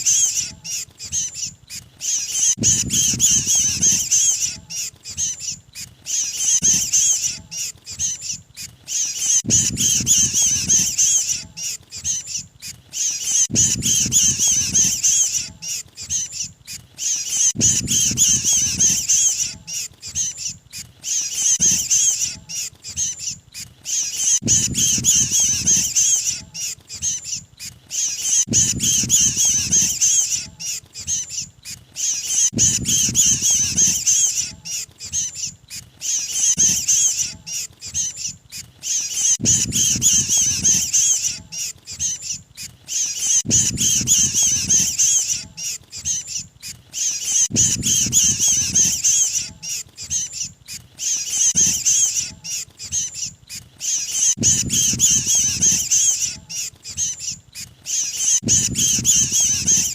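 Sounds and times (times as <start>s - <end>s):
bird distress chatter: 0.0s - 59.9s.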